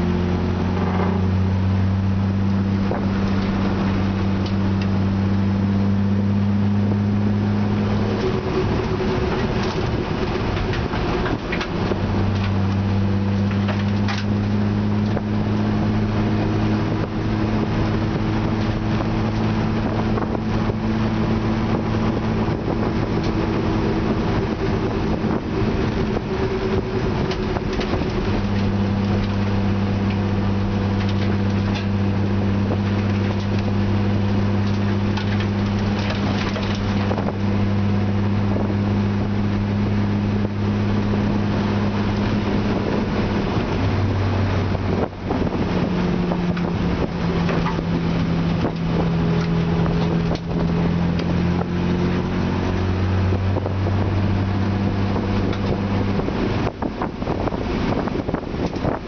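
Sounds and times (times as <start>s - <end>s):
race car engine at speed: 0.0s - 59.0s
wind noise: 0.0s - 59.0s.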